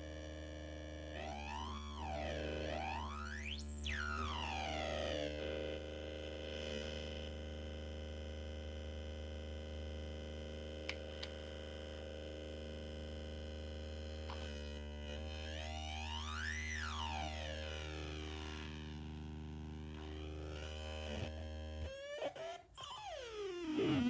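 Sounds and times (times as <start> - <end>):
synth buzzing drone: 0.0 - 24.0.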